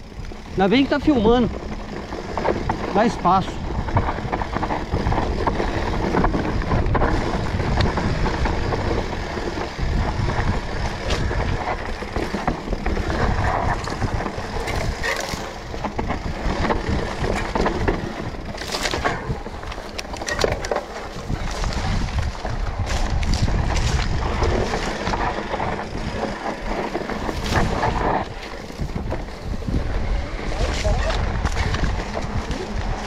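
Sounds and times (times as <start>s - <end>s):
bike rattling over bumps: 0.0s - 33.0s
knobby tyres rolling on dirt: 0.0s - 33.0s
wind rumble on microphone: 0.0s - 33.0s.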